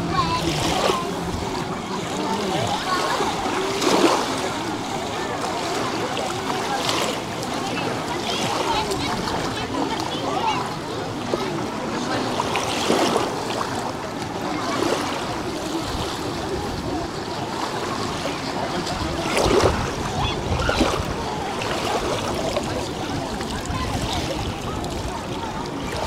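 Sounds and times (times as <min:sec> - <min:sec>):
faint voices: 0:00.0 - 0:26.0
rushing water: 0:00.0 - 0:26.0.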